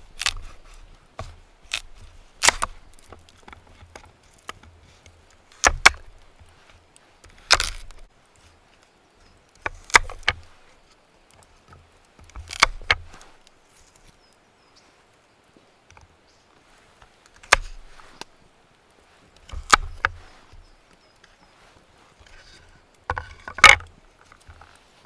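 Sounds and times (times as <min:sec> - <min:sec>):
firewood being chopped: 0:00.0 - 0:08.2, 0:09.5 - 0:14.0, 0:16.8 - 0:21.4, 0:22.1 - 0:24.8.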